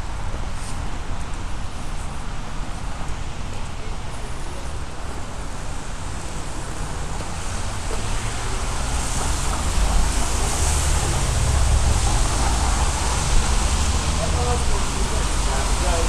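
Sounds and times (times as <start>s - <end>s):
rain: 0.0s - 16.0s
traffic hiss on wet roads: 0.0s - 16.0s.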